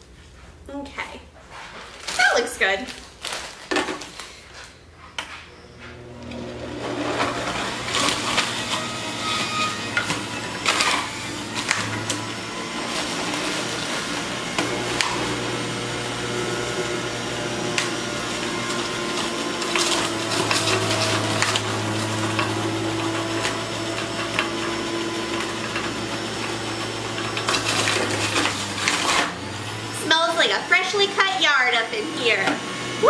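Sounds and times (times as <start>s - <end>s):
greens crackling in juicer: 1.9s - 4.7s, 6.0s - 33.0s
juicer motor running: 5.8s - 33.0s.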